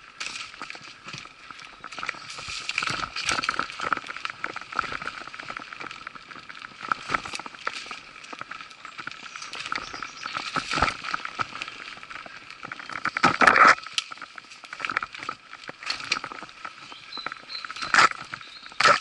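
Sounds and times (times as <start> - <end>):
bike tyres on dirt: 0.0 - 19.0
bike rattling and knocking: 1.8 - 19.0.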